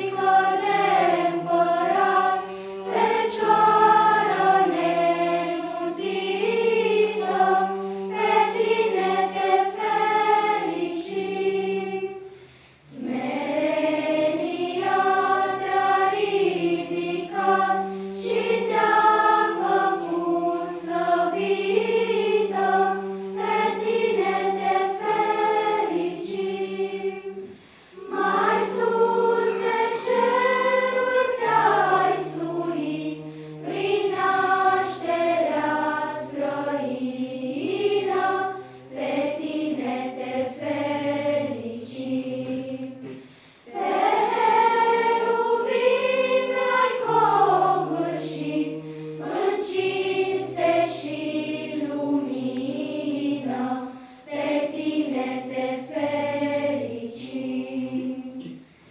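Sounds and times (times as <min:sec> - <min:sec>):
children's choir singing a cappella: 0:00.0 - 0:58.9.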